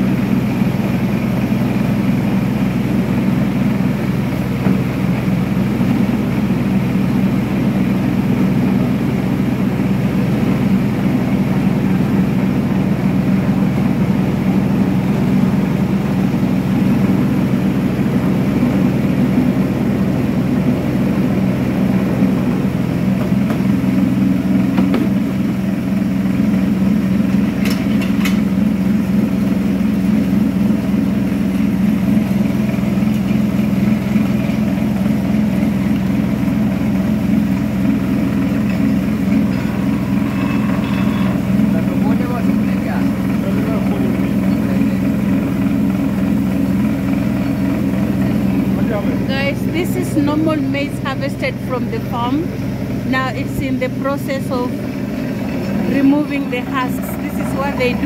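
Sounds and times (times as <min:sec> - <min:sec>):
dehulling machine droning: 0:00.0 - 0:58.0.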